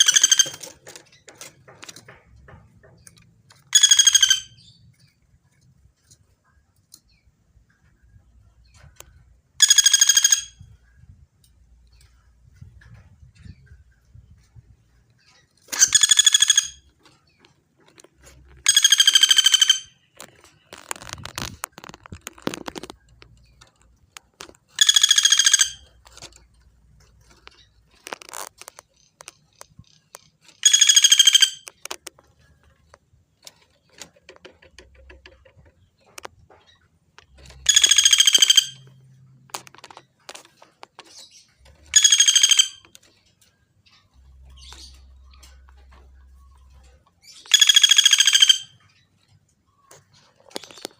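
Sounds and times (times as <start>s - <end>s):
woodpecker rattling calls: 0.0s - 5.2s, 9.0s - 11.1s, 15.0s - 50.9s.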